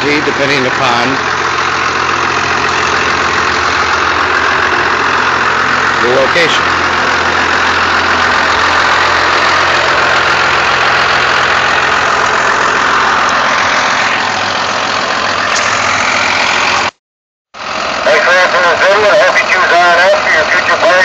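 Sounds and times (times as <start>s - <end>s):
bus engine idling: 0.0s - 17.0s, 17.6s - 21.0s.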